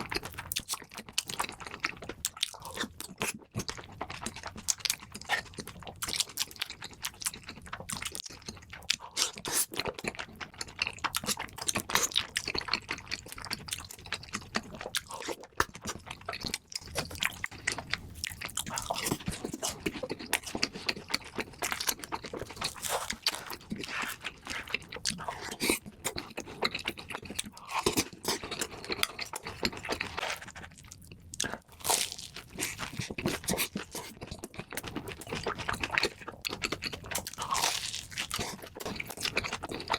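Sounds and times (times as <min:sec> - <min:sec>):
person chewing crisp food: 0:00.0 - 0:39.9.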